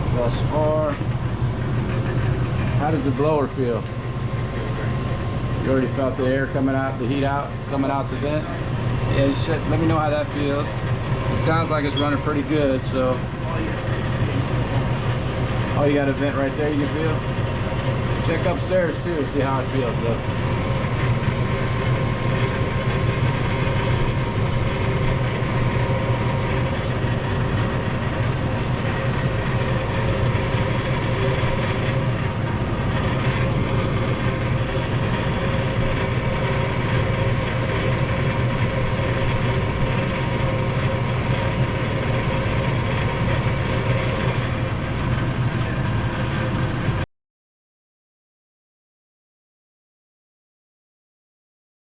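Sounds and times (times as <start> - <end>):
gas furnace humming: 0.0 - 47.0.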